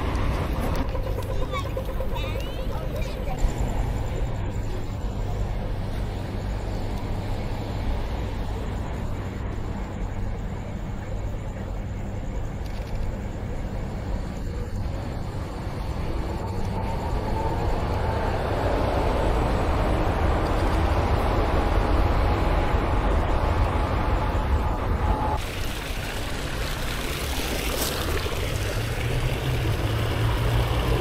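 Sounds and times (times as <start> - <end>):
city street traffic rumbling: 0.0 - 31.0
tram approaching: 0.0 - 31.0.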